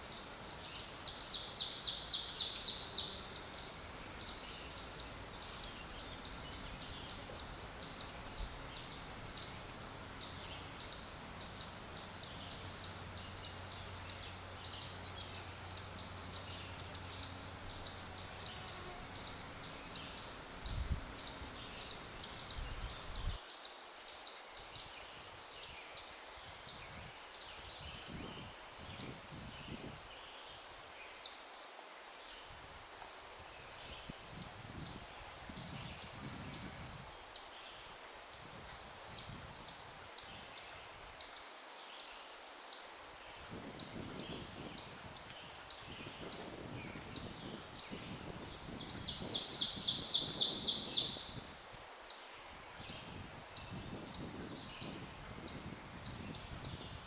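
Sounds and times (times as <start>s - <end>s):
small birds chirping: 0.0s - 51.4s, 52.1s - 57.0s.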